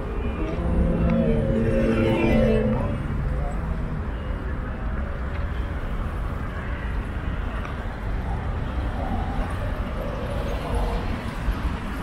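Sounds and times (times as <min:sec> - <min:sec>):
road noise: 0:00.0 - 0:12.0
wind rumble on microphone: 0:00.0 - 0:12.0.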